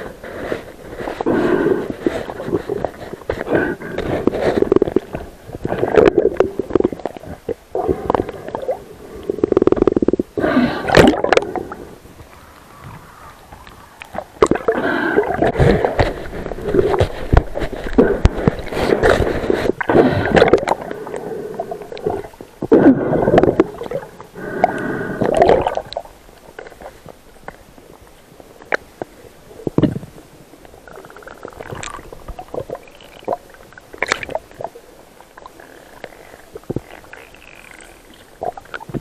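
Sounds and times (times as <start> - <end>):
gear clicking and knocking underwater: 0.0 - 27.7, 28.6 - 39.0
underwater bubbling and gurgling: 0.0 - 39.0.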